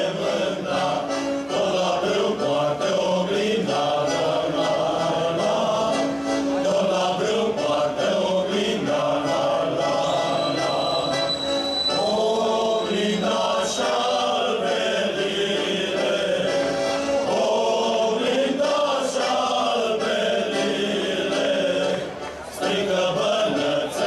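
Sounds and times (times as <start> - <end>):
group singing folk song: 0.0 - 24.0.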